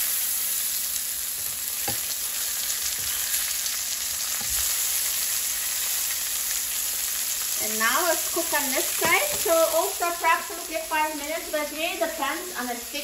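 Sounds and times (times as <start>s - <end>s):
pork chops sizzling in oil: 0.0s - 13.0s.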